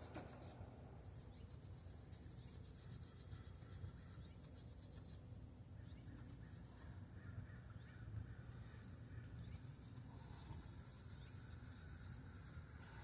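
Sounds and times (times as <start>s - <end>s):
faint rapid scratching: 0.0s - 7.7s, 8.3s - 13.0s.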